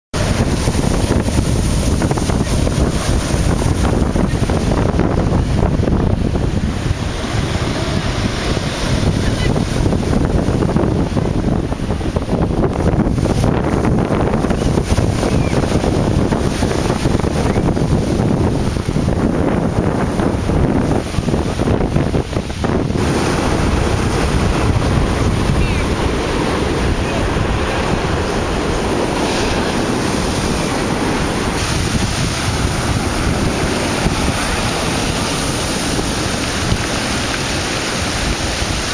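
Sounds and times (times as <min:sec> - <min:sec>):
sea surf crashing: 0:00.1 - 0:38.9
wind buffeting microphone: 0:00.1 - 0:38.9.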